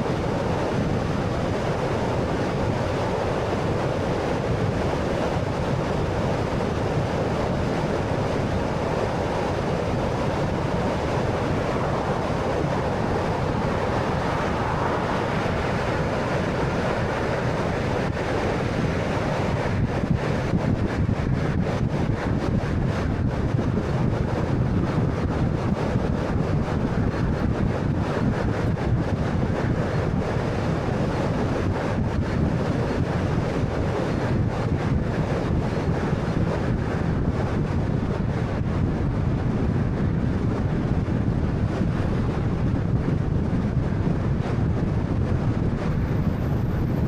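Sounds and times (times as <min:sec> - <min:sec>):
car road and wind noise: 0:00.0 - 0:47.0
wind buffeting microphone: 0:00.0 - 0:47.0.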